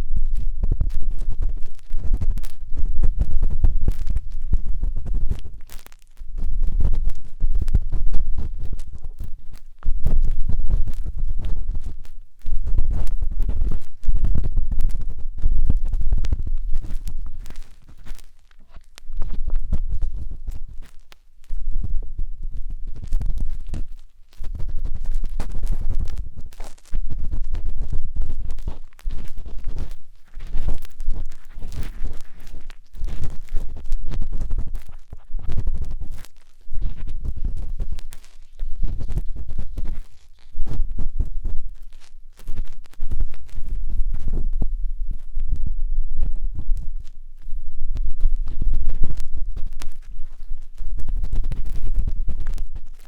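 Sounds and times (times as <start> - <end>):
matchstick scratching microphone: 0.0 - 53.0.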